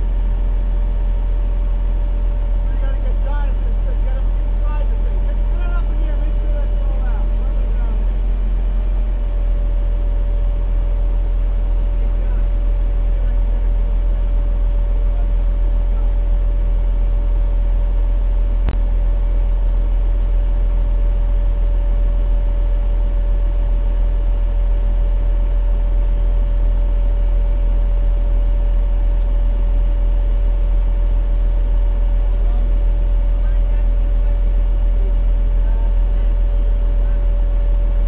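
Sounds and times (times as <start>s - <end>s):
fire engine running: 0.0s - 38.0s.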